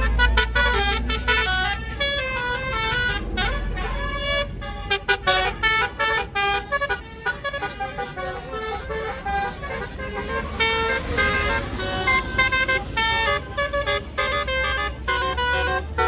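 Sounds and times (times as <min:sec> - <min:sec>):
bus horn playing melody: 0:00.0 - 0:16.0
low engine rumble: 0:00.0 - 0:16.0.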